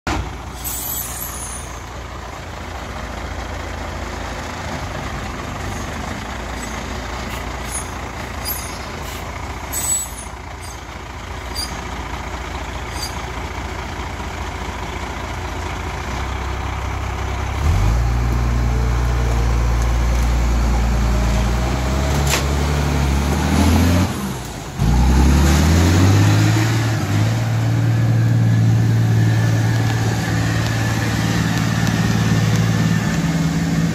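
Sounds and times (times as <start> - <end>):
truck diesel engine revving: 0.3 - 33.9.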